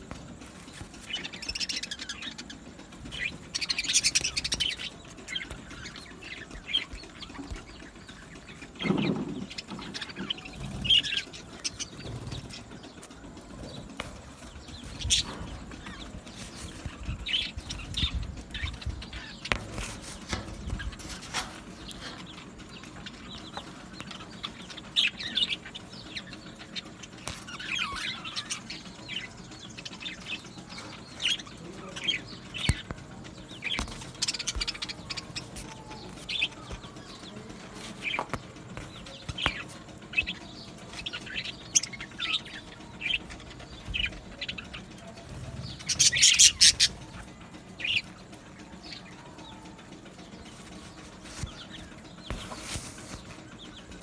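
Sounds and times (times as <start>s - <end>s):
budgerigars chirping and chattering: 0.0s - 54.0s
wings flapping: 0.0s - 54.0s.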